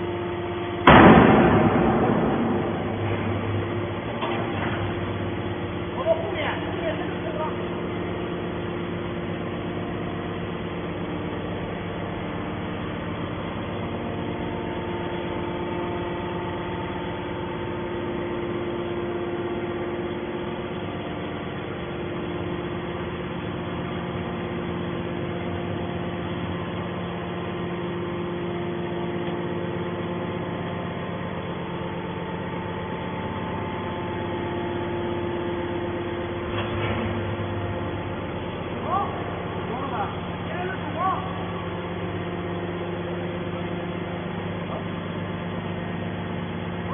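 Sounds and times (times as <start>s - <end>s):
hydraulic motor and pump humming: 0.0s - 46.9s.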